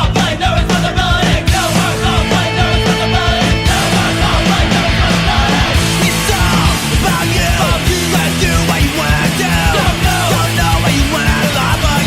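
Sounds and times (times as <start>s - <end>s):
rock music with singing: 0.0s - 12.0s.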